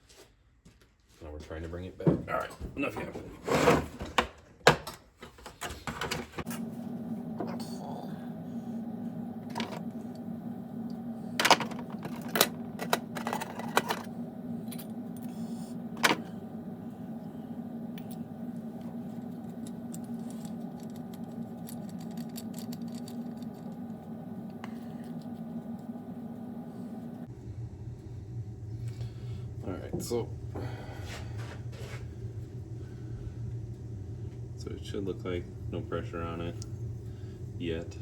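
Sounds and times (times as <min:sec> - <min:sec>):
steady low hum: 0:05.5 - 0:38.0.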